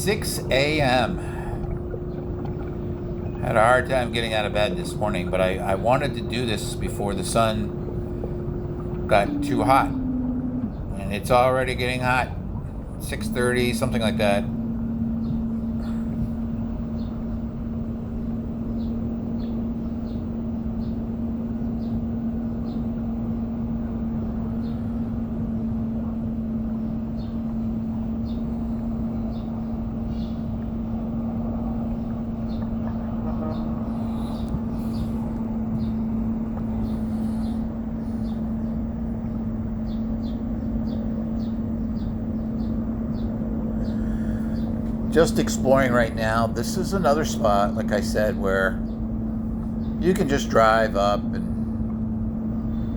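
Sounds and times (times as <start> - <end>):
low mechanical hum: 0.0 - 52.9.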